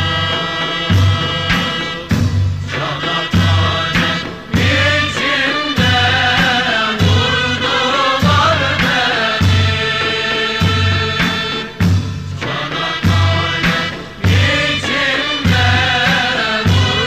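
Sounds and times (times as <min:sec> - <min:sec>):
chorus singing a march: 0:00.0 - 0:17.0
heavy drum beats: 0:00.0 - 0:17.0.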